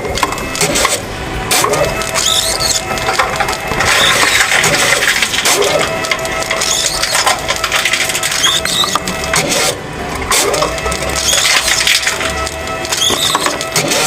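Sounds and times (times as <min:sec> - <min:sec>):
crunching and scraping: 0:00.0 - 0:14.0.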